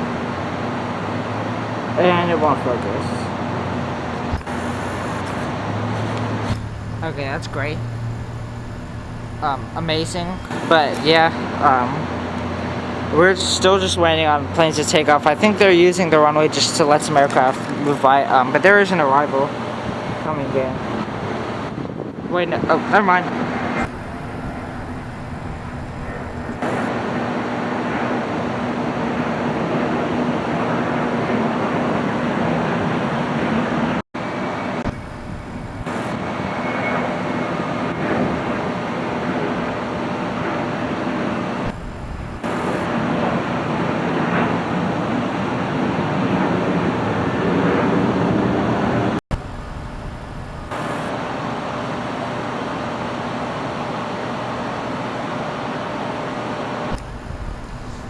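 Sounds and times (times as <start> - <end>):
jet airliner engine noise: 0.0 - 58.0.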